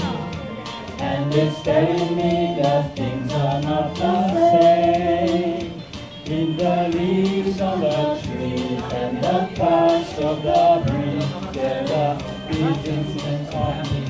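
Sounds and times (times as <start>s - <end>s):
backing track with steady beat: 0.0s - 14.0s
person singing karaoke: 0.0s - 14.0s.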